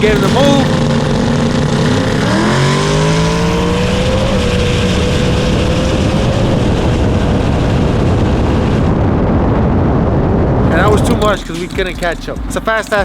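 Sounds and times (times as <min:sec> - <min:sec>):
drag racing engine at full throttle: 0:00.0 - 0:11.6
heavy rushing noise: 0:00.0 - 0:11.6.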